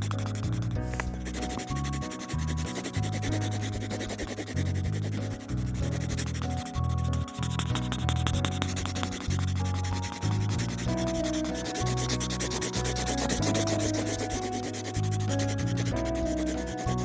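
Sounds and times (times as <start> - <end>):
background music: 0.0 - 17.0
marker rubbing on paper: 0.0 - 17.0.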